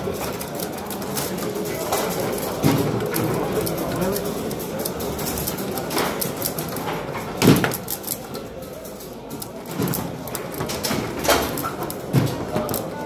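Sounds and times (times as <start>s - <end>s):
ball clacking on foosball figures: 0.0s - 13.0s.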